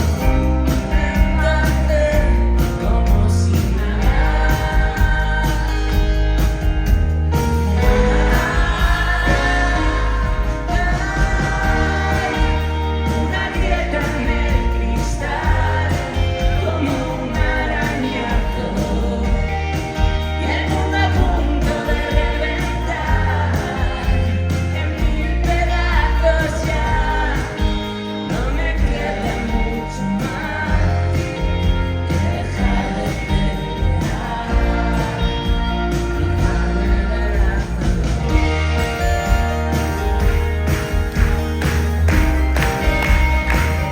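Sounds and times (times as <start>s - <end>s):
person singing lead vocal: 0.0s - 6.5s, 7.7s - 39.4s
moving bass line: 0.0s - 43.9s
pop-rock song with band: 0.0s - 43.9s.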